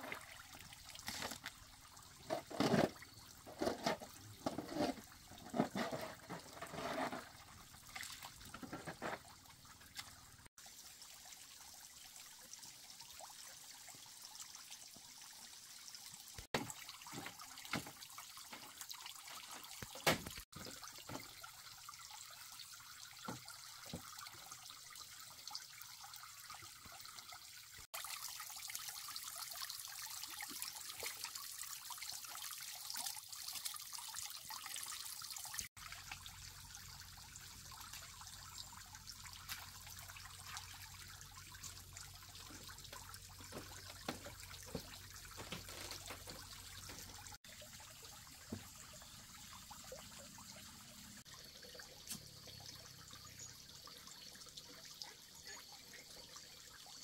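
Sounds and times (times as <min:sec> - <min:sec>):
water splashing and trickling: 0:00.0 - 0:57.0.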